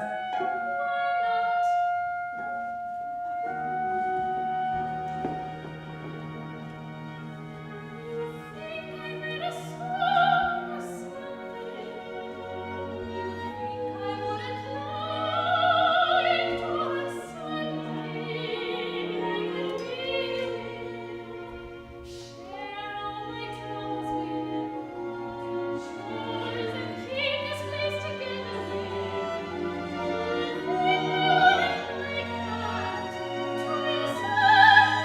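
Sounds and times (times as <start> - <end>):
soprano singing opera: 0.0 - 4.7, 8.0 - 35.0
instrumental accompaniment: 0.0 - 35.0.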